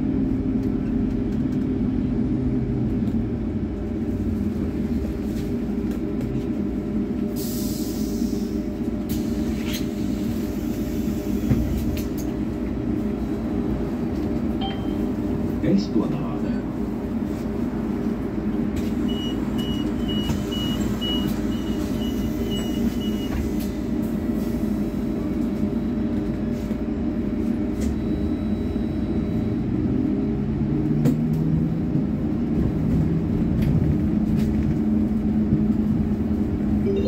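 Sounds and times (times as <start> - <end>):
vehicle drive hum and road rumble: 0.0 - 37.0.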